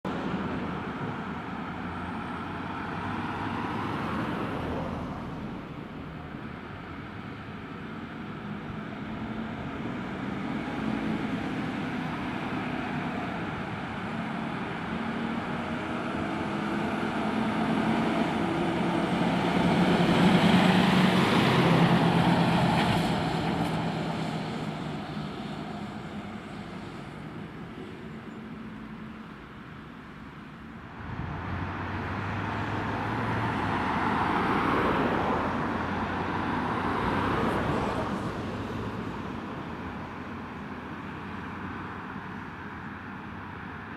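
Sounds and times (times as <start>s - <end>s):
street traffic: 0.0s - 43.9s
heavy vehicle passing: 0.1s - 29.0s, 30.8s - 43.7s.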